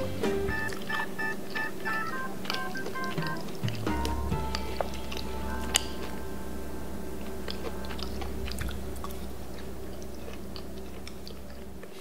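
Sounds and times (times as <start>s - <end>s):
steady low hum: 0.0s - 12.0s
crunchy chewing: 0.5s - 6.2s, 7.2s - 12.0s.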